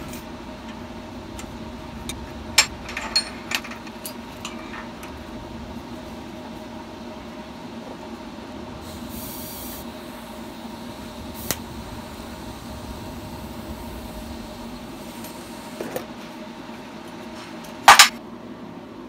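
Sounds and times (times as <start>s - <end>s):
welding arc hum and hiss: 0.0s - 19.0s.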